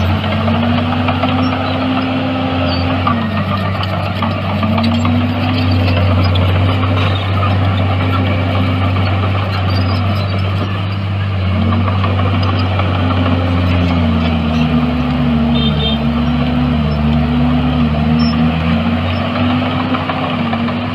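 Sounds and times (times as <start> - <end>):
heavy diesel engine under load: 0.0 - 20.9.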